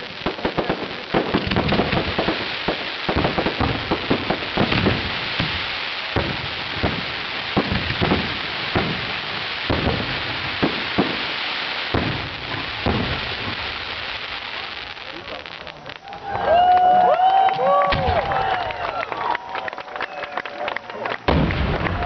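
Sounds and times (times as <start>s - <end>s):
fireworks booming: 0.0s - 16.9s, 17.6s - 18.8s, 21.2s - 22.0s
fireworks crackling hiss: 0.0s - 22.0s.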